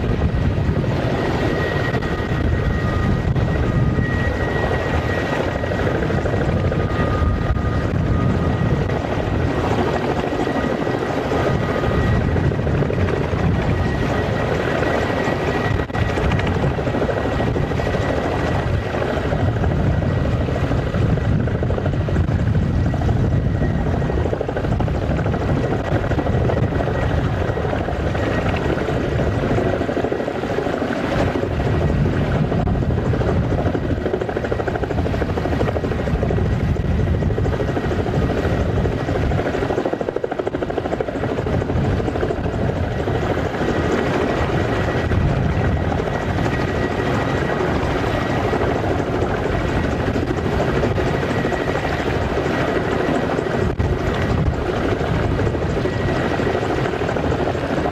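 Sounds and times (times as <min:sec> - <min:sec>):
helicopter rotors and turbine: 0:00.0 - 0:57.9.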